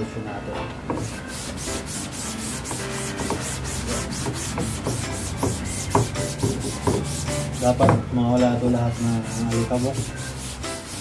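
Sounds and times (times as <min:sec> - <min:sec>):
cloth scrubbing screen mesh: 0:01.1 - 0:07.9, 0:08.7 - 0:11.0.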